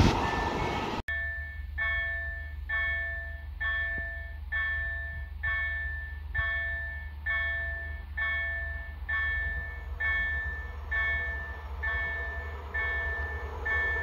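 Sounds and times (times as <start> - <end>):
approaching train: 0.0 - 14.0
level crossing warning bell: 0.2 - 14.0.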